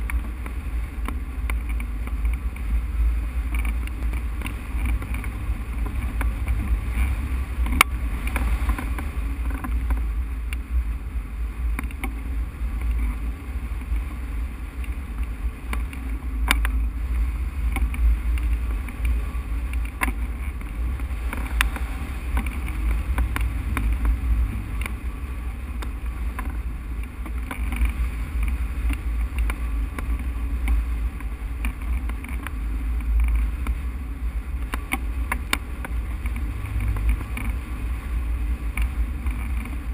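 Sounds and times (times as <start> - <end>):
wind buffeting camera: 0.0 - 39.9.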